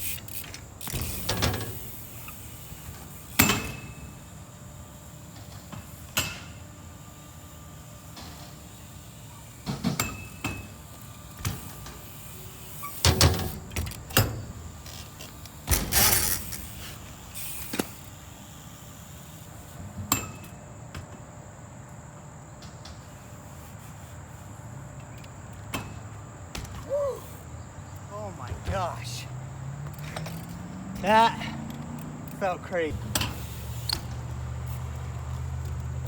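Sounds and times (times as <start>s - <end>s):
bike scraping: 0.0s - 20.2s, 26.2s - 36.0s
bike clanking on ramps: 0.0s - 21.2s, 24.6s - 36.0s.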